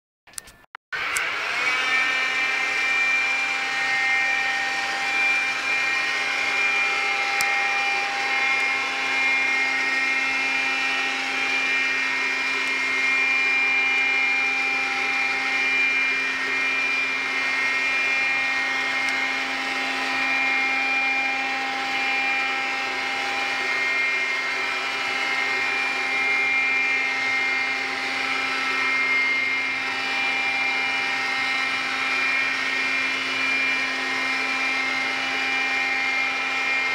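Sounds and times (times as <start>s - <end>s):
robot motor whir and whine: 1.1s - 36.9s.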